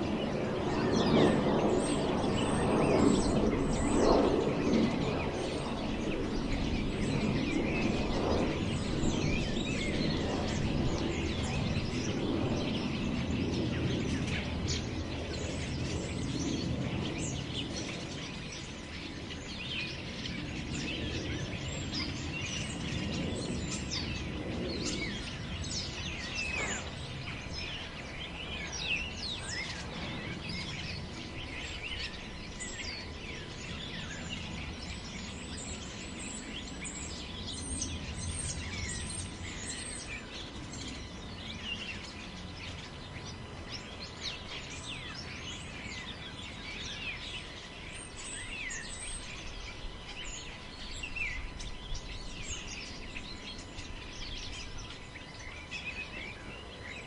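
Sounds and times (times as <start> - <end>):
birds chirping: 0.0 - 57.0
wind through forest: 0.0 - 57.0.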